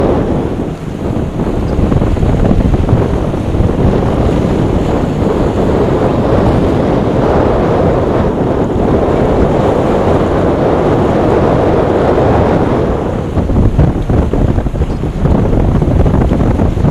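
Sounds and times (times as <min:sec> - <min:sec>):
waves and surf: 0:00.0 - 0:16.9
wind blowing across microphone: 0:00.0 - 0:16.9.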